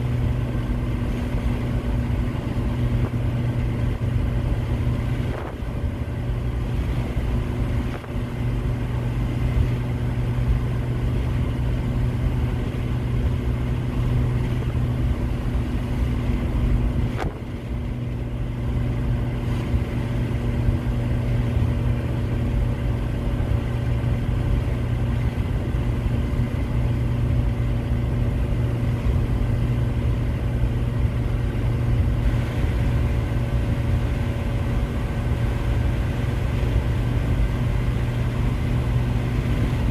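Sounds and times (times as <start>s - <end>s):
engine and tyre drone: 0.0s - 39.9s.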